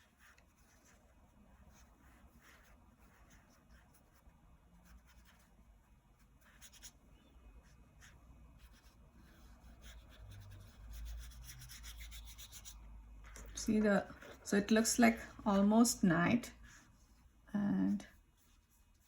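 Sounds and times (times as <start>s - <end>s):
paintbrush swishing on paper: 0.0s - 15.7s, 16.4s - 19.0s.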